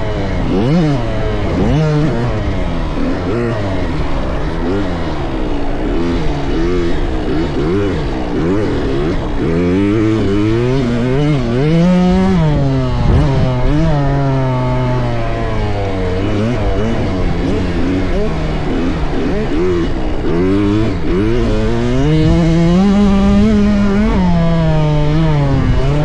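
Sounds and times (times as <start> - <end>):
dirt bike engines revving: 0.0 - 26.0
steady engine note: 0.0 - 26.0.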